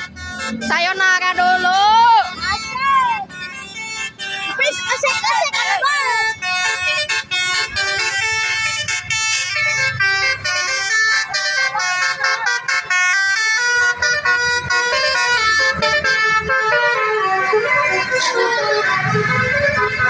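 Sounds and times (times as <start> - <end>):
bus horn playing a melody: 0.0 - 20.0.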